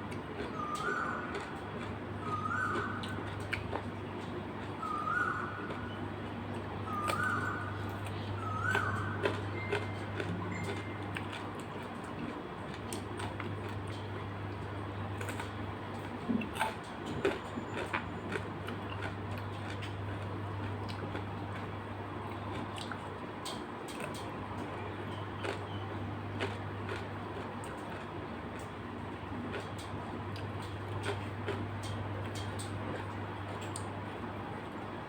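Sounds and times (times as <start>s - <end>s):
chewing with small clicks: 0.0s - 34.9s
steady low hum: 0.0s - 35.0s.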